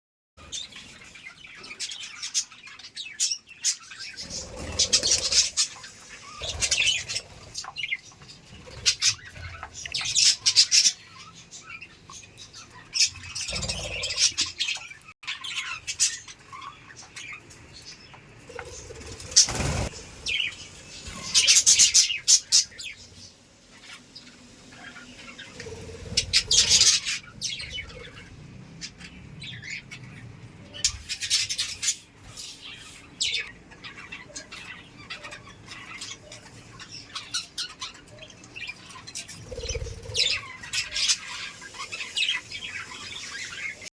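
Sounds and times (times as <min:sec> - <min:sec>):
budgerigars chirping and chattering: 0:00.4 - 0:43.9.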